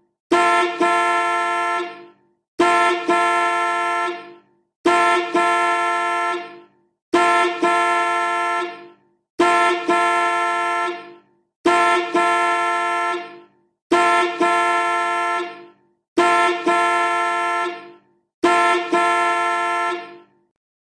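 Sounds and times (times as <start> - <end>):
car horn blasts: 0.3 - 20.4.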